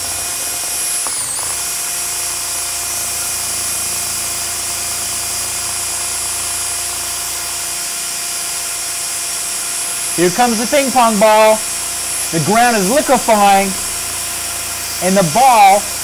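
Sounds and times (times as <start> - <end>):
cordless drill whining: 0.0 - 16.0.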